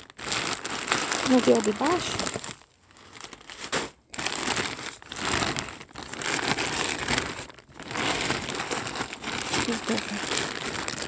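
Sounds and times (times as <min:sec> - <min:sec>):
plastic bag of dry leaves crinkling: 0:00.0 - 0:11.0.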